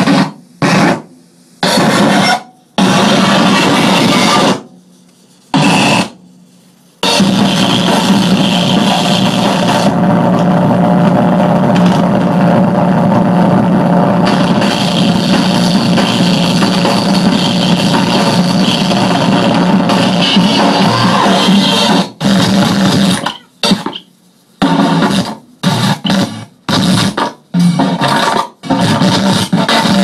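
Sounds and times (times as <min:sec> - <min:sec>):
harsh distorted noise music: 0:00.0 - 0:30.0.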